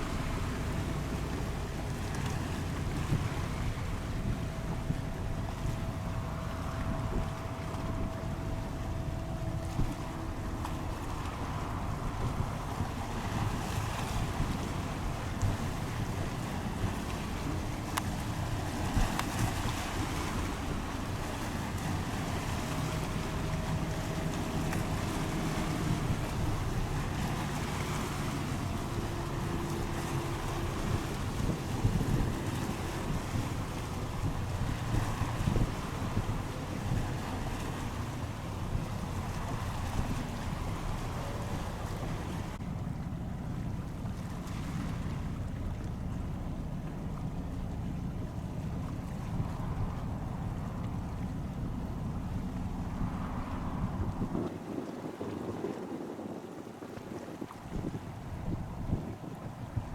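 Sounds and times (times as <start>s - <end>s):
boat engines humming: 0.0s - 59.9s
water noise: 0.0s - 59.9s
wind buffeting microphone: 0.0s - 59.9s.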